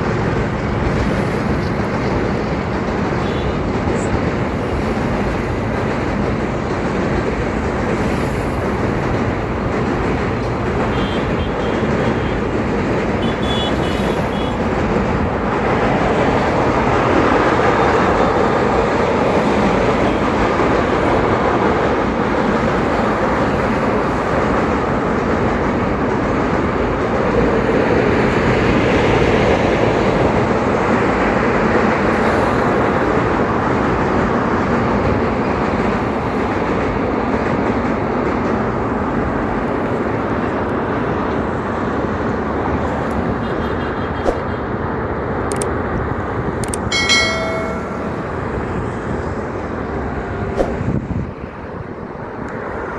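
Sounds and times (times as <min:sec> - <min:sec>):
freight train rumbling over bridge: 0:00.0 - 0:52.9.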